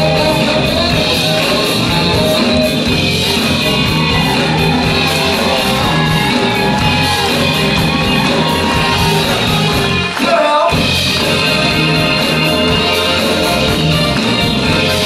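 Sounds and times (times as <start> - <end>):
soul band playing: 0.0 - 15.0.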